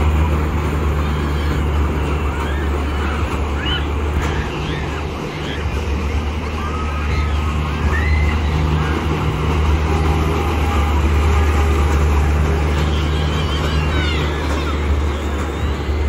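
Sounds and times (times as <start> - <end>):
faint crowd and children's voices: 0.0 - 16.0
low mechanical hum of rides: 0.0 - 16.0.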